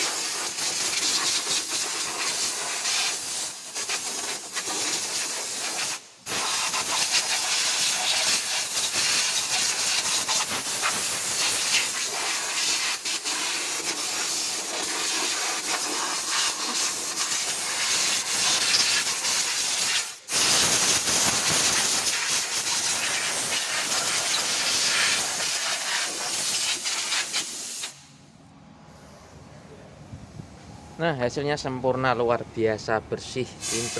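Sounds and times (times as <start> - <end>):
compressed air gun hissing: 0.0 - 28.1, 33.6 - 33.9.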